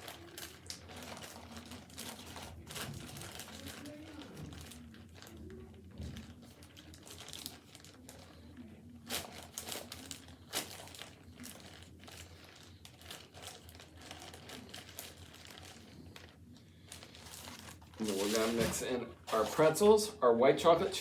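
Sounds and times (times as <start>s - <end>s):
plastic bag crinkling: 0.0s - 20.2s.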